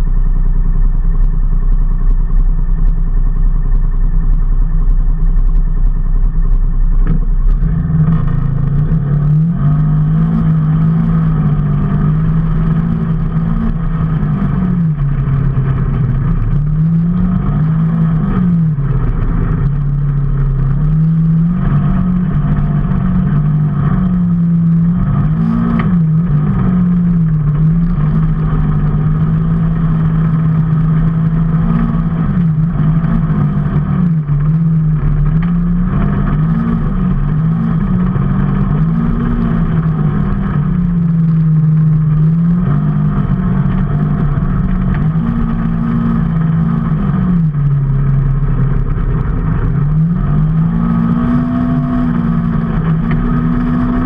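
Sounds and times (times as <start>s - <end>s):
road rumble: 0.0s - 54.0s
vehicle engine revving: 0.0s - 54.0s.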